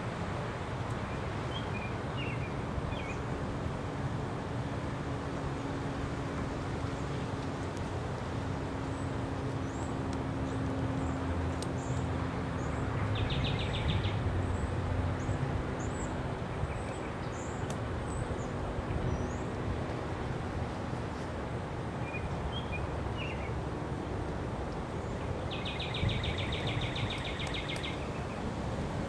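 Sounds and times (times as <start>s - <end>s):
distant traffic rumble: 0.0s - 29.0s.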